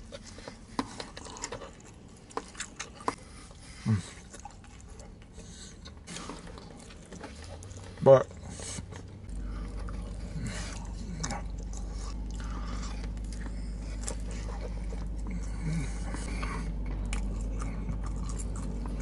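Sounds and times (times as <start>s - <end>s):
low steady hum: 0.0s - 19.0s
person chewing pizza: 0.0s - 19.0s.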